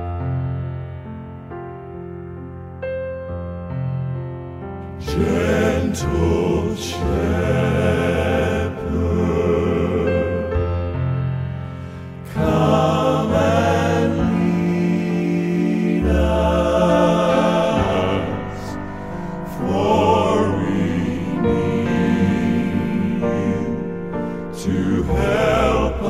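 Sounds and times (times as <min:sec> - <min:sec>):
male quartet singing in harmony: 0:05.0 - 0:26.0.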